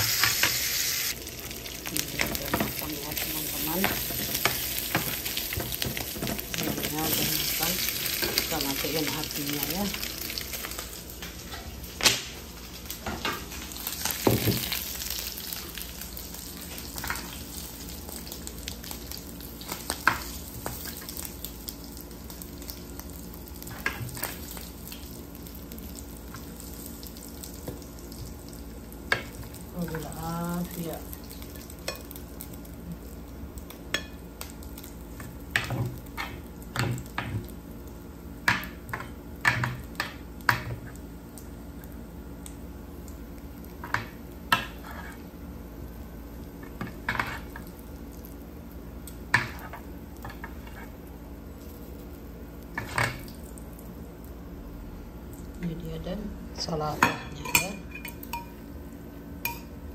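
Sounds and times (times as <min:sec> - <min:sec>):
chicken sizzling in a grill pan: 0:00.0 - 0:59.9.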